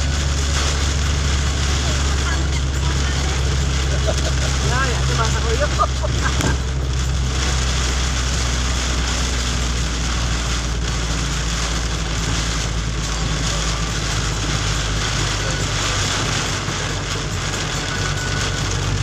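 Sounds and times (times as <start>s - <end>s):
heavy rain falling: 0.0s - 19.0s
low vehicle rumble: 0.0s - 19.0s.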